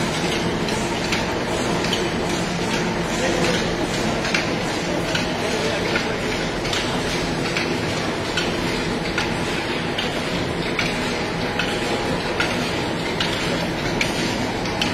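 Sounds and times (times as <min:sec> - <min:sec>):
oil press machine clatter: 0:00.0 - 0:14.9.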